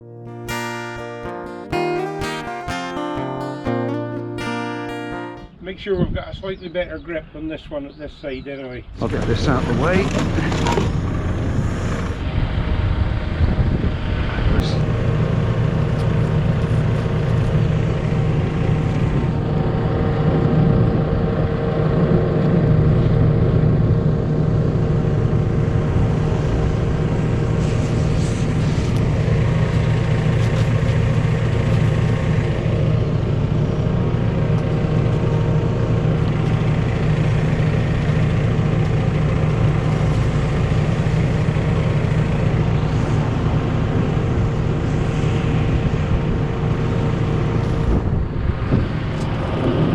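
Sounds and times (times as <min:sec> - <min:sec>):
machine engine droning: 0:06.8 - 0:49.9.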